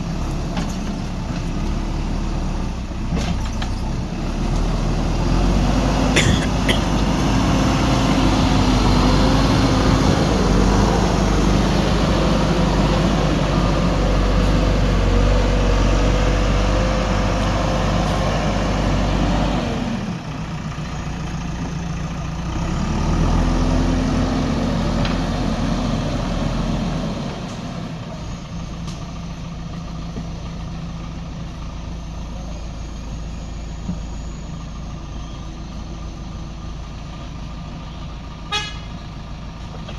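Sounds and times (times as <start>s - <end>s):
diesel engine revving: 0.0s - 39.8s.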